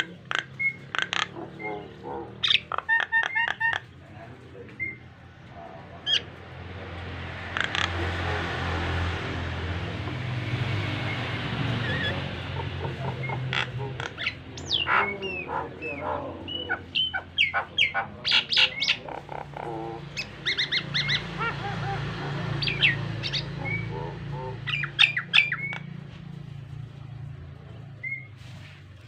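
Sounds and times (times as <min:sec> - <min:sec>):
starling singing: 0:00.0 - 0:26.0.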